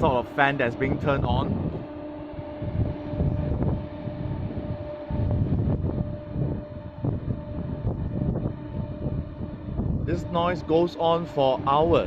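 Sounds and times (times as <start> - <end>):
large ventilation fan droning: 0.0 - 12.0.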